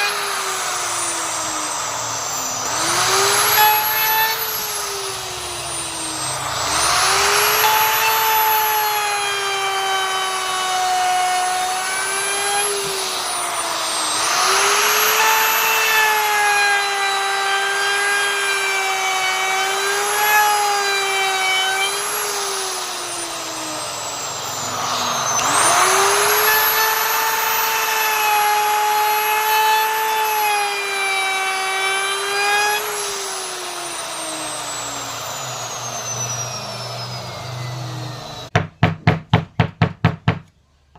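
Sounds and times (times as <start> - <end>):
electric router cutting wood: 0.0 - 38.9.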